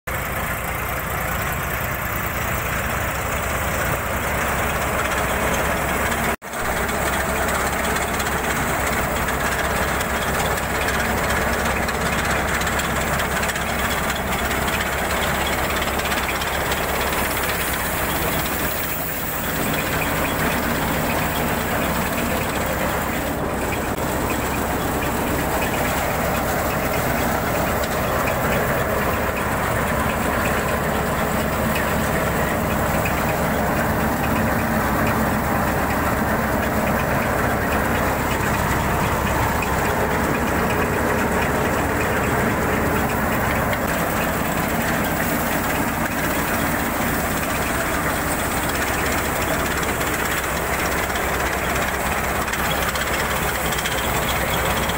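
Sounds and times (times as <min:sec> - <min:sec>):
tractor diesel engine: 0:00.0 - 0:54.9
threshing drum running: 0:00.1 - 0:54.9.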